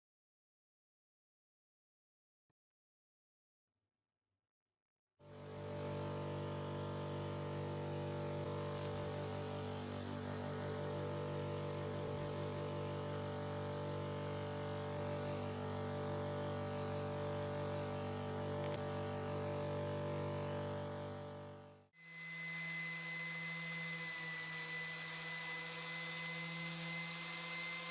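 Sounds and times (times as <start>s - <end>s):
small electric motor humming: 5.2s - 27.9s.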